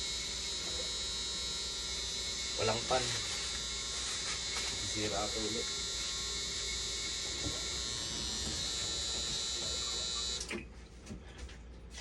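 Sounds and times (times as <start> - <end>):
high-pitched electrical whine: 0.0 - 10.5.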